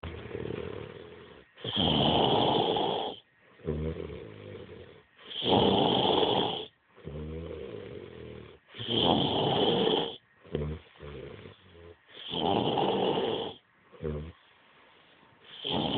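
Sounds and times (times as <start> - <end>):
man snoring heavily: 0.2 - 11.6, 12.2 - 14.4, 15.5 - 15.9.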